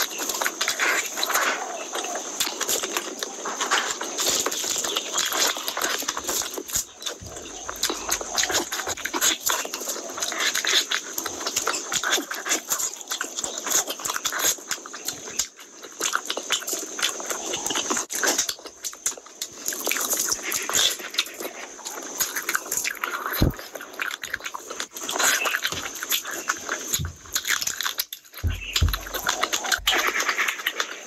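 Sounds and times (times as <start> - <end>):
wet chewing and lip smacking: 0.0 - 31.0
mouth clicks: 0.2 - 31.0.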